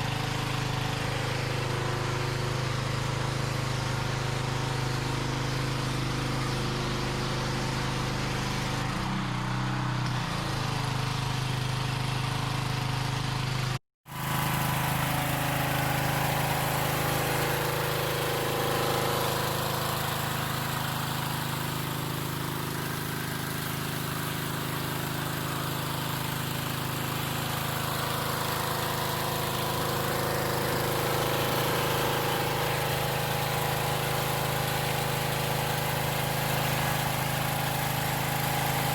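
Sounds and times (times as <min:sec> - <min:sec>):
water jet hissing on concrete: 0:00.0 - 0:09.2, 0:14.0 - 0:38.9
pressure washer engine running: 0:00.0 - 0:38.9.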